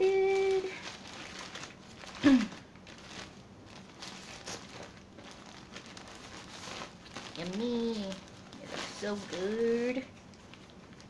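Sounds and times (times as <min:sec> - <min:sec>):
paper wrapper rustling: 0:00.0 - 0:11.0.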